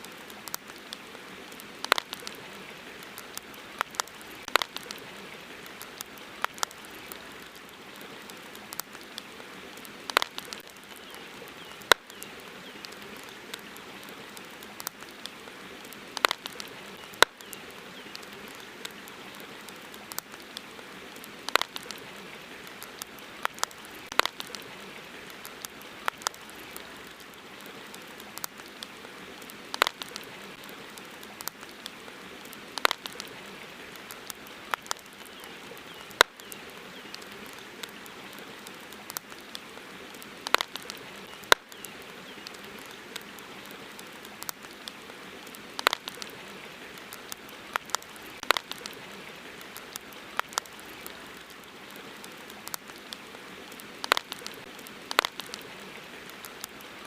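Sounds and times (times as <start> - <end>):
campfire crackling: 0.0 - 57.0
river water flowing: 0.0 - 57.0.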